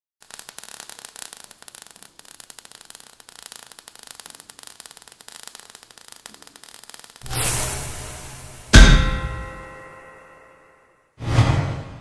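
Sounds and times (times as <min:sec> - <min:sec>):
sparks crackling and hissing: 0:00.2 - 0:10.0.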